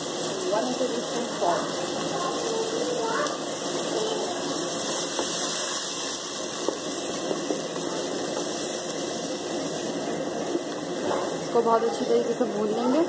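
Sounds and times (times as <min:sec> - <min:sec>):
masala sizzling in a pot: 0:00.0 - 0:13.0.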